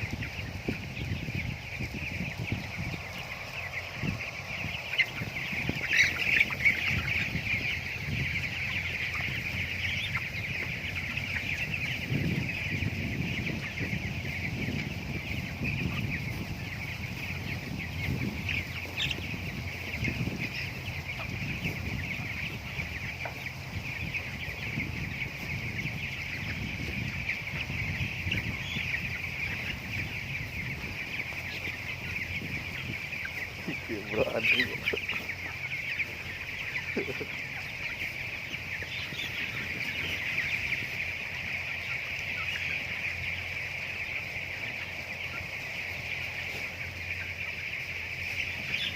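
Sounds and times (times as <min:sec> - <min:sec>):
chickens calling: 0:00.0 - 0:48.9.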